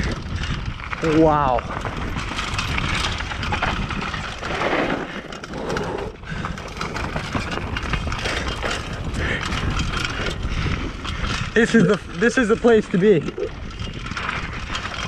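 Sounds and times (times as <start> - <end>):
bike chain and parts clattering: 0.0 - 15.0
wind rumble on microphone: 0.0 - 15.0
tyres crunching over dirt: 0.1 - 15.0.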